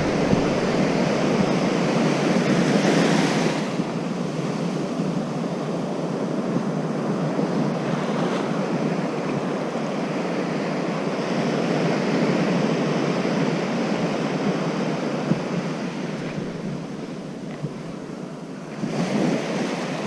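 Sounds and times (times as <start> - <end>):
ocean surf breaking: 0.0 - 20.0
wind on microphone: 0.0 - 20.0.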